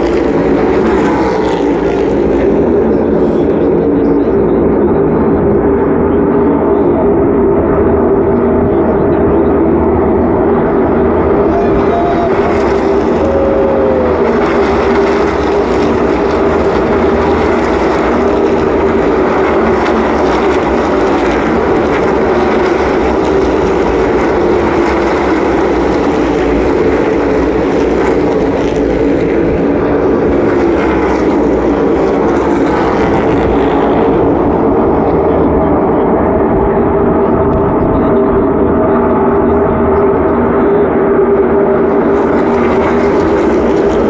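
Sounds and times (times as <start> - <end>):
race car engines droning: 0.0 - 44.0.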